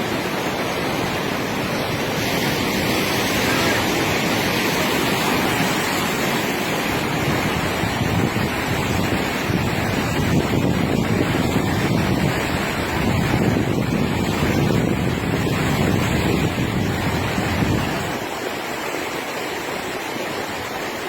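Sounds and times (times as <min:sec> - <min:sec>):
wind buffeting microphone: 0:00.0 - 0:18.4
river water rushing: 0:00.0 - 0:21.0.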